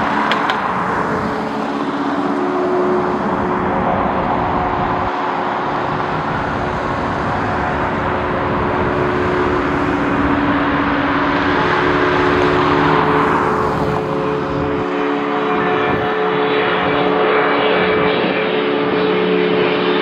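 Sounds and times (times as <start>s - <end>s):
jet engines rushing and droning: 0.0s - 20.0s.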